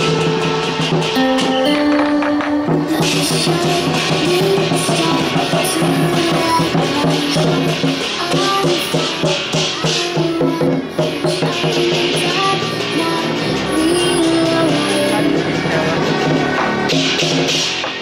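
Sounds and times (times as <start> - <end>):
clashing cymbals: 0.0 - 18.0
drum beating: 0.0 - 18.0
stepping melody: 0.0 - 18.0.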